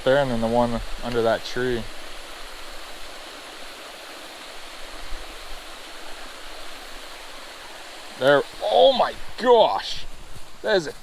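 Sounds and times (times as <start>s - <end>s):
water rushing from waterfall: 0.0s - 11.0s.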